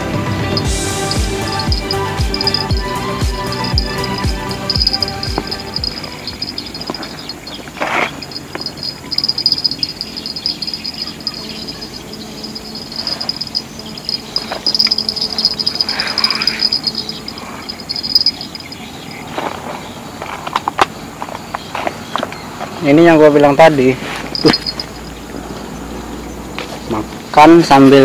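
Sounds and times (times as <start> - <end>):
insects trilling: 0.5 - 28.0.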